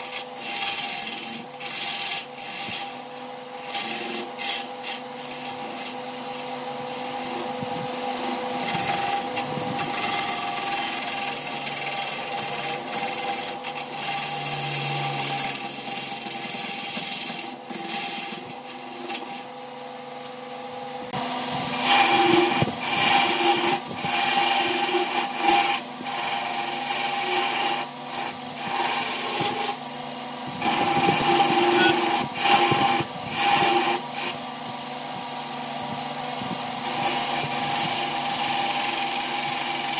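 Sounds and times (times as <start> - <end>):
gouge scraping spinning wood: 0.0 - 39.9
lathe motor hum: 0.0 - 39.9.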